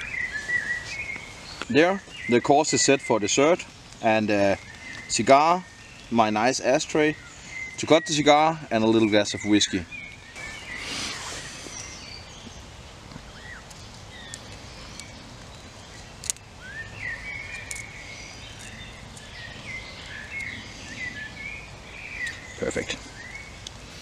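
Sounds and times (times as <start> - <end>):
outdoor background noise: 0.0 - 24.0
small birds chirping: 0.0 - 24.0.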